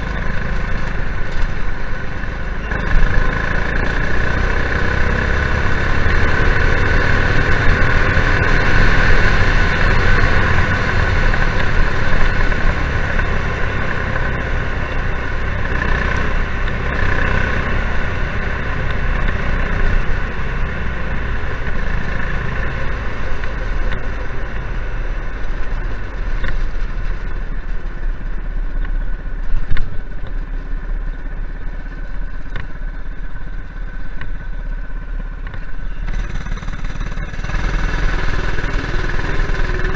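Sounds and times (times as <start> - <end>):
go kart engine revving: 0.0 - 27.2, 32.1 - 39.9.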